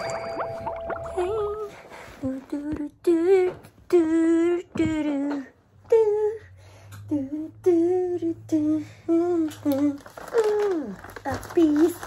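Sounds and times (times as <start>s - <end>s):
woman singing wordless tune: 0.8s - 12.0s.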